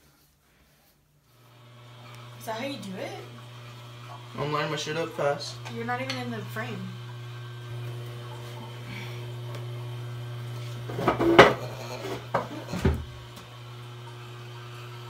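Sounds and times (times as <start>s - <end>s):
electric hair clippers humming: 1.4s - 15.0s.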